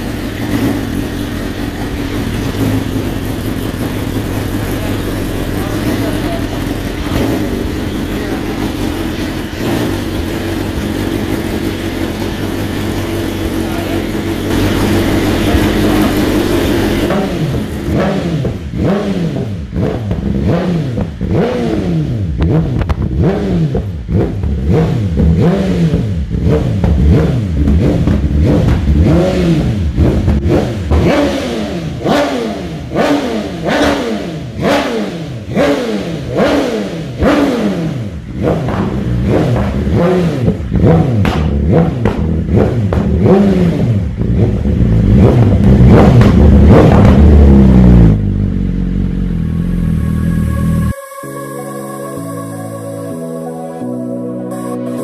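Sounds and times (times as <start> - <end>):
motorcycle engine revving: 0.0 - 51.1.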